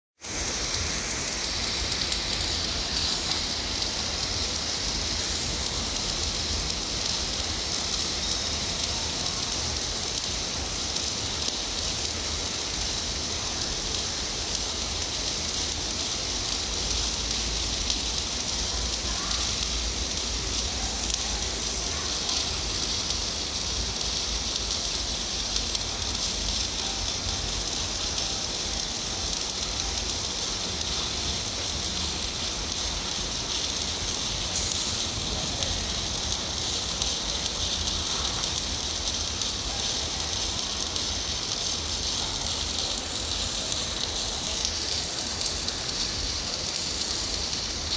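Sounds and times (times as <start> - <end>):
welding arc crackling: 0.2 - 47.9.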